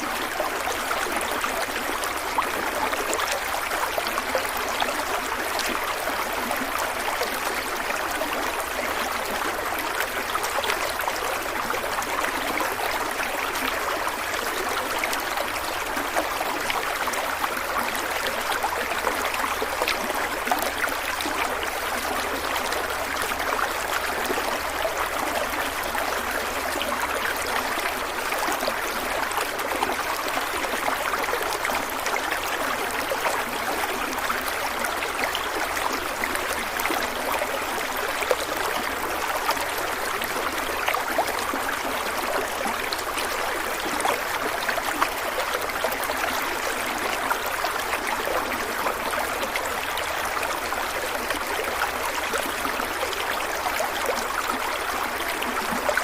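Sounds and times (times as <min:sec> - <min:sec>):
stream of water flowing: 0:00.0 - 0:56.0.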